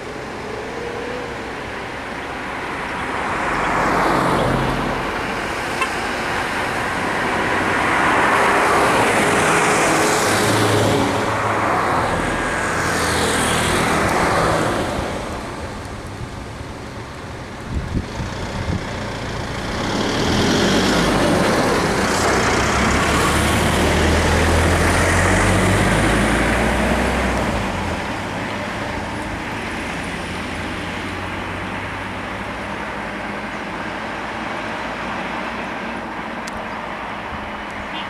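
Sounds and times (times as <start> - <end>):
heavy diesel vehicle passing: 0.0 - 38.0.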